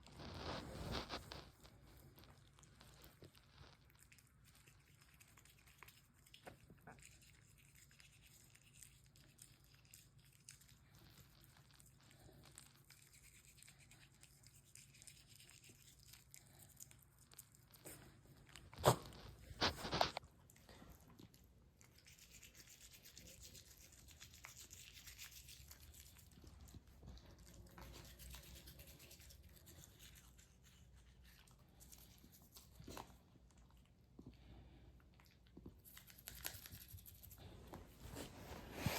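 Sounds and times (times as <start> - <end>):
toothbrush scrubbing teeth: 0.0 - 38.9.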